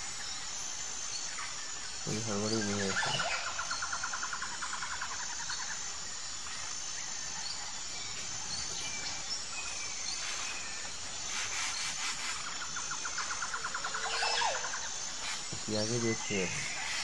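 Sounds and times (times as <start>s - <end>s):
insects whining and trilling: 0.0s - 17.0s.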